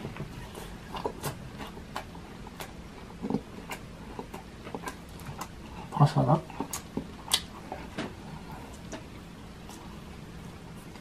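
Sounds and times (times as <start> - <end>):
man chewing crunchy food: 0.0 - 11.0.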